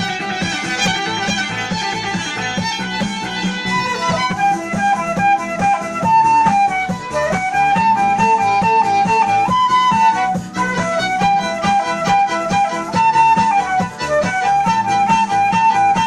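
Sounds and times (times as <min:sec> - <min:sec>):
instrumental pop music: 0:00.0 - 0:16.0
lead melody: 0:00.0 - 0:16.0.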